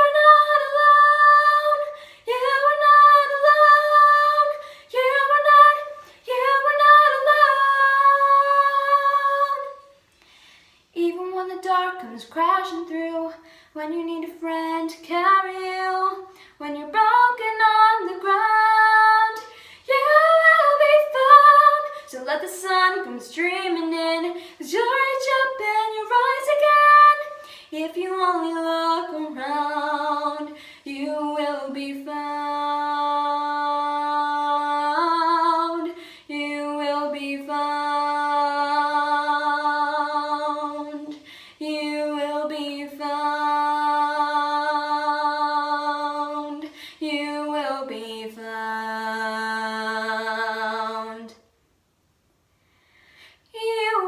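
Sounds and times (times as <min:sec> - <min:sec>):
girl singing unaccompanied: 0:00.0 - 0:10.0, 0:10.9 - 0:51.5.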